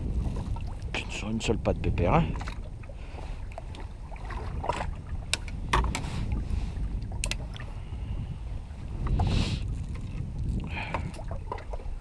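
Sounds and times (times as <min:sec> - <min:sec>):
water against boat: 0:00.0 - 0:12.0
wind rumble on microphone: 0:00.0 - 0:12.0.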